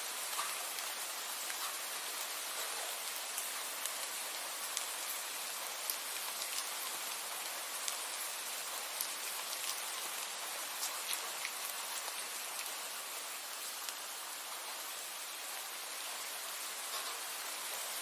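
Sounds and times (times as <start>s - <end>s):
rain hissing: 0.0s - 18.0s
raindrops ticking on a surface: 0.0s - 18.0s.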